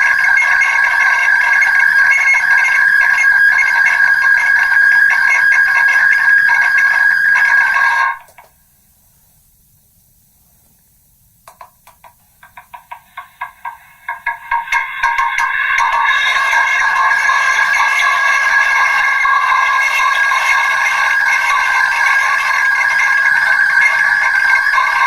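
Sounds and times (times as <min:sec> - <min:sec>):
megaphone ringing drone: 0:00.0 - 0:08.4, 0:12.9 - 0:25.0.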